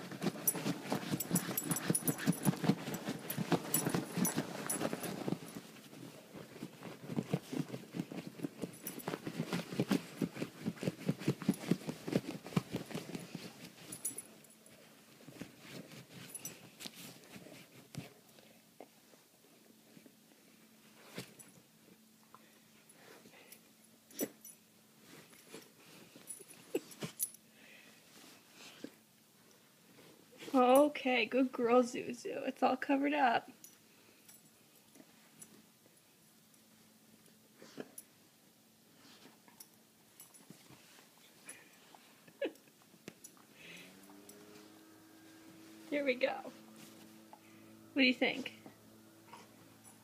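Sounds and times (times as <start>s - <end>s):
bedding rustling: 0.0s - 21.8s, 22.6s - 30.9s, 38.9s - 50.0s.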